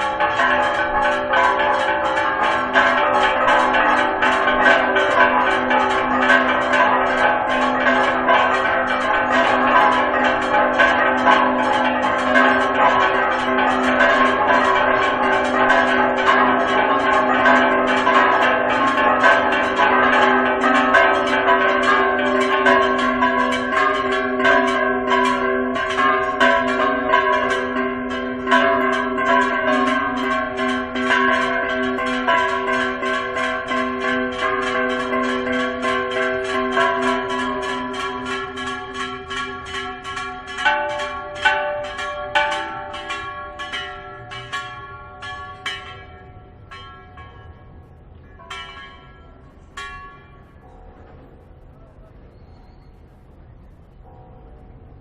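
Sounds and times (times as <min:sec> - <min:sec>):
church bells ringing rapidly: 0:00.0 - 0:55.0.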